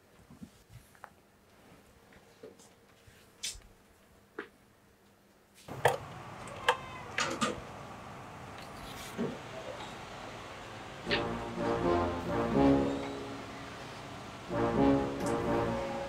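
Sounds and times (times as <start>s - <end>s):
steady outdoor hiss: 2.9s - 16.0s.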